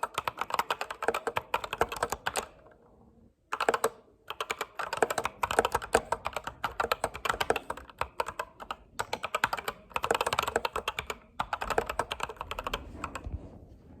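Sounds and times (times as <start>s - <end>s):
fast keyboard typing: 0.0s - 2.6s, 3.5s - 13.2s.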